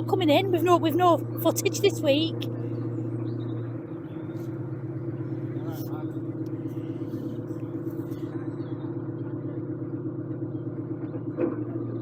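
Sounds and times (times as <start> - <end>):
diesel engine running: 0.0 - 12.0
engine knock: 0.0 - 12.0.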